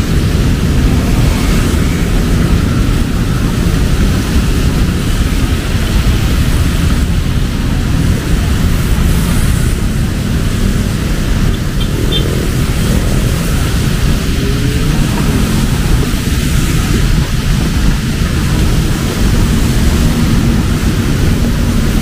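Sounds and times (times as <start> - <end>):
deep constant rumble: 0.0 - 22.0
heavy rain falling: 0.0 - 22.0.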